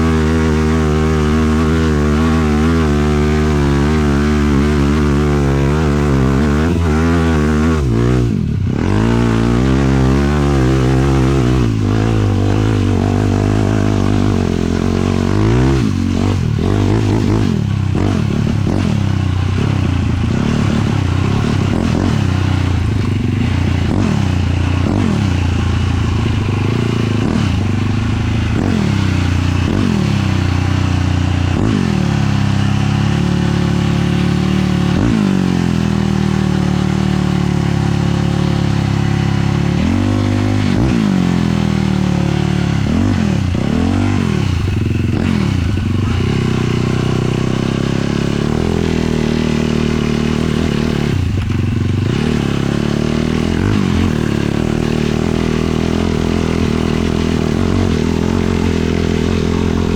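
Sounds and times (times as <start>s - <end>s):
quad engine revving under load: 0.0s - 59.9s.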